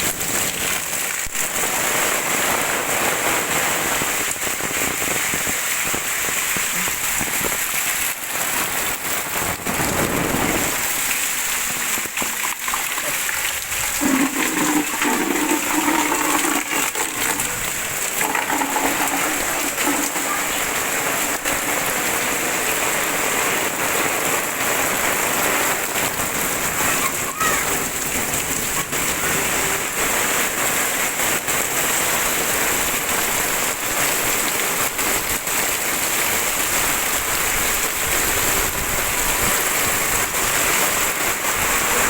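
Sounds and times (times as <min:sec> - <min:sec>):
heavy rain pouring: 0:00.0 - 0:42.0.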